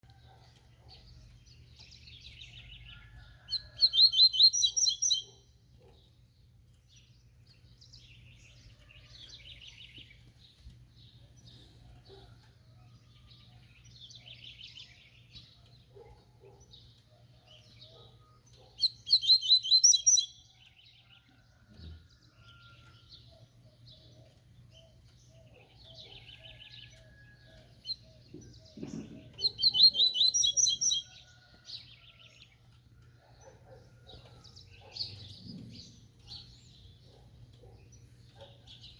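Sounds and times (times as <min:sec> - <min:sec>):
bird singing trilled phrases: 0:00.8 - 0:10.4, 0:13.4 - 0:21.0, 0:22.7 - 0:32.6, 0:33.4 - 0:38.9.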